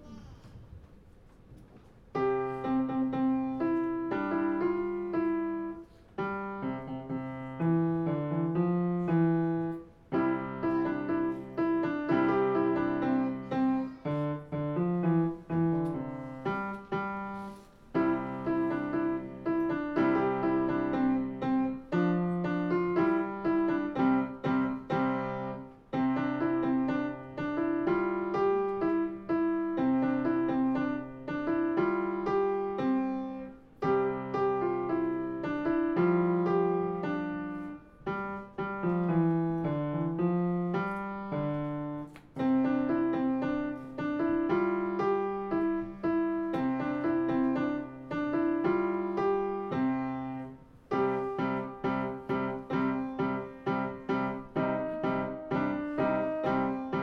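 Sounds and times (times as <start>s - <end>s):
child playing piano: 2.1s - 57.0s.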